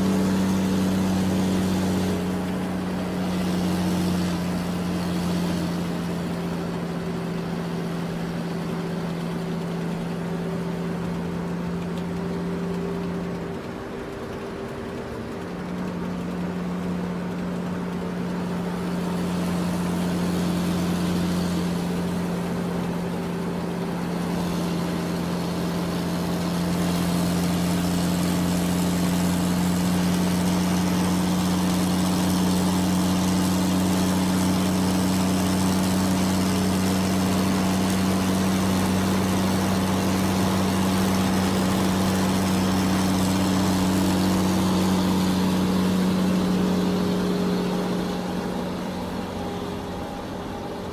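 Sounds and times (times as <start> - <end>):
engine humming: 0.0 - 50.9.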